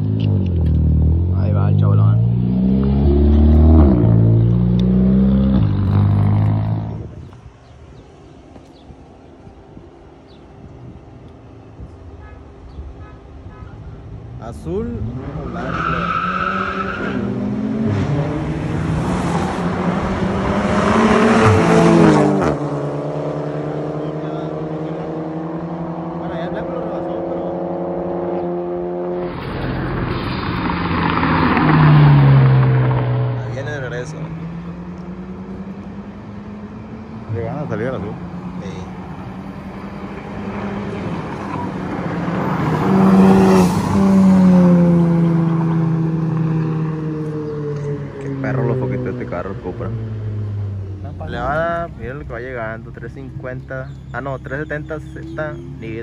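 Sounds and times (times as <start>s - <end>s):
car engine passing by: 0.0s - 7.3s, 15.0s - 56.0s.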